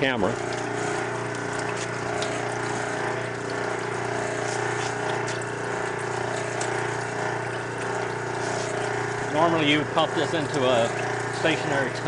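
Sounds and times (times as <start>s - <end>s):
drain pump pumping water: 0.0s - 12.0s
washing machine motor humming: 0.0s - 12.0s.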